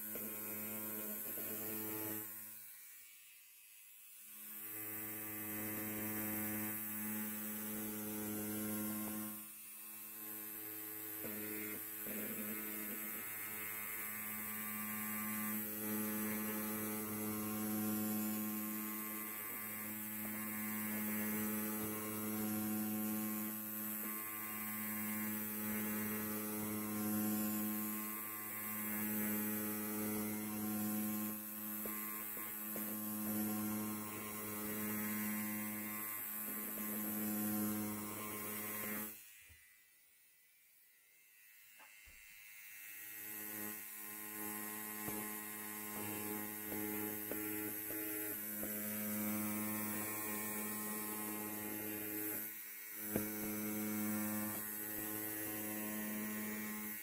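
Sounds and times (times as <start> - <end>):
electric hair trimmer buzzing: 0.0 - 57.0.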